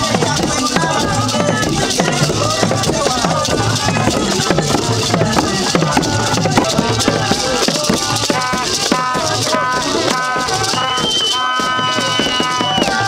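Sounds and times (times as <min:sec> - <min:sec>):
gourd rattle shaking: 0:00.0 - 0:13.0
large drums beaten fast: 0:00.0 - 0:13.0
voices singing: 0:00.0 - 0:13.0.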